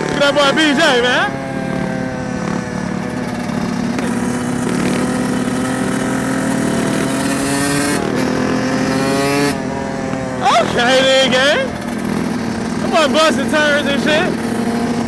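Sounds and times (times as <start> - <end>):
dirt bike engine under throttle: 0.0 - 15.0.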